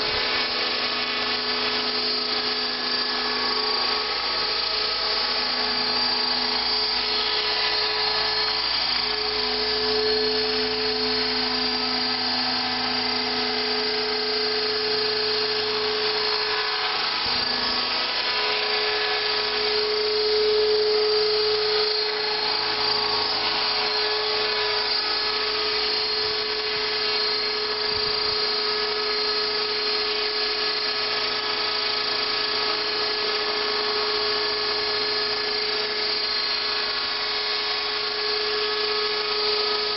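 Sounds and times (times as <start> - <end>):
electric helicopter motor whine: 0.0 - 39.9.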